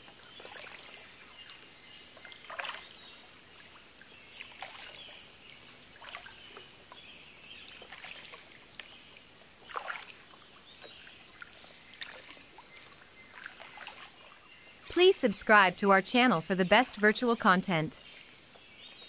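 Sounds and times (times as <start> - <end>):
water splashing and lapping: 0.0 - 19.0.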